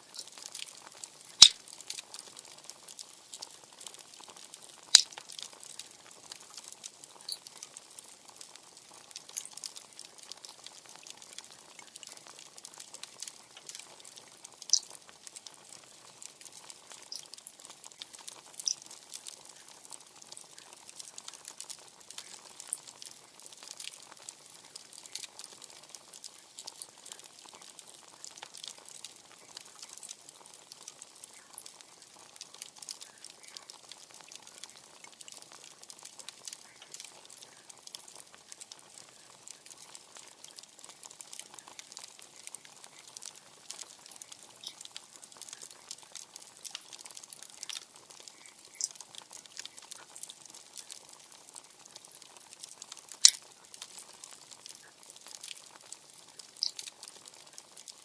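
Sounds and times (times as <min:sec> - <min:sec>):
bonfire crackling: 0:00.0 - 0:58.0.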